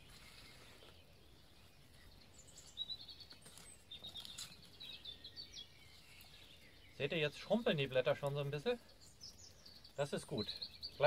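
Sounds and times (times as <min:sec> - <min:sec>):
faint songbird chirping: 0:00.0 - 0:11.0.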